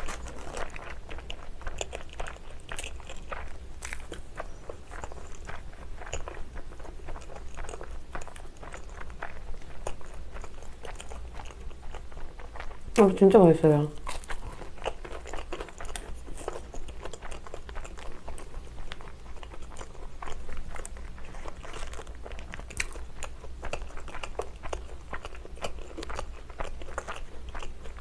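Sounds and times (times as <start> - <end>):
chewing with wet mouth clicks: 0.0 - 13.1, 14.0 - 28.0.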